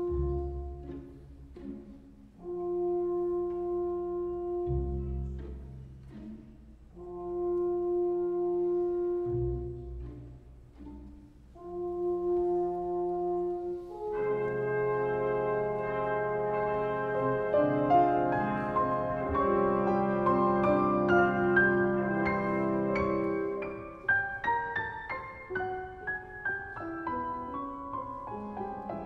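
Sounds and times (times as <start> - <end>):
orchestra playing soft wind chords: 0.0 - 29.0.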